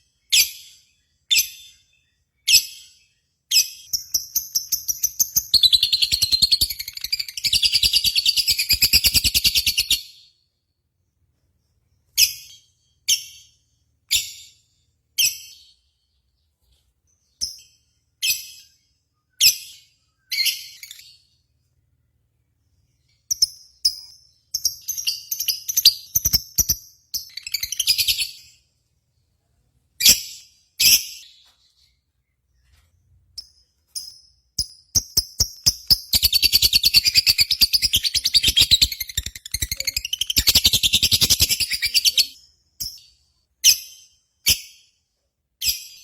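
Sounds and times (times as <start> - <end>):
lovebird chirping: 0.2 - 10.4, 11.8 - 21.4, 22.7 - 28.7, 30.0 - 44.8.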